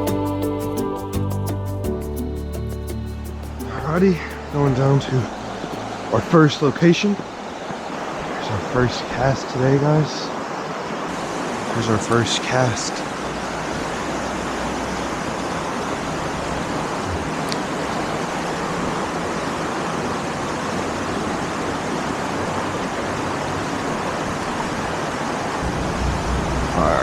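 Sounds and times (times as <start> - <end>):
stream rapids rushing: 2.5 - 27.0.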